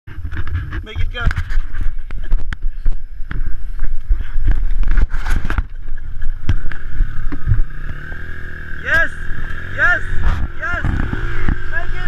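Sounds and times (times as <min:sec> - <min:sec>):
dirt bike engine rumbling: 0:00.1 - 0:12.0.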